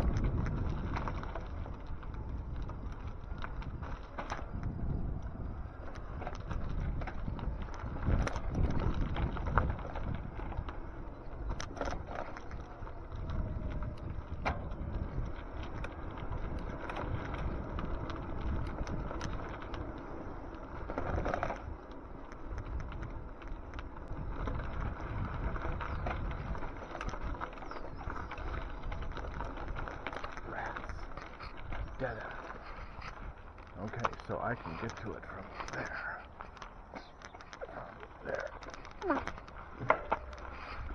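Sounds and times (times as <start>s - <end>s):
light clicks and rattles: 0.0s - 40.9s
wind and road noise: 0.0s - 40.9s.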